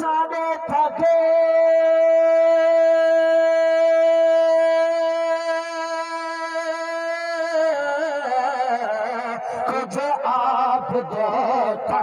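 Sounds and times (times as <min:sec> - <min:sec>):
voices singing through loudspeakers: 0:00.0 - 0:12.0.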